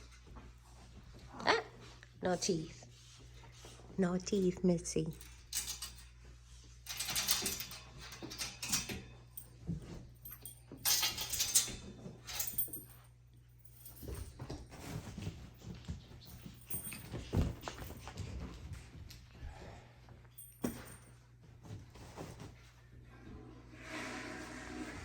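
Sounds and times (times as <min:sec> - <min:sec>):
rustling and handling: 0:00.0 - 0:23.0.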